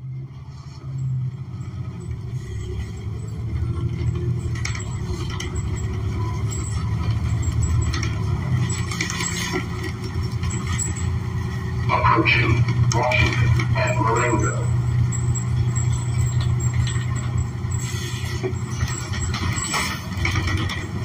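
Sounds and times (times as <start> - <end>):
bus engine low drone: 0.0 - 21.0
interior rattles: 1.3 - 21.0.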